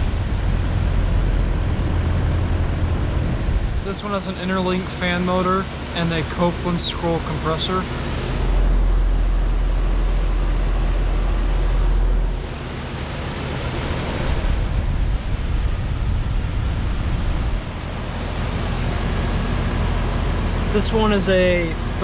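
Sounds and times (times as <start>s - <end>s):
compressor hum: 0.0s - 22.0s
condenser fan air rushing: 0.0s - 22.0s
heavy low rumble: 0.0s - 22.0s.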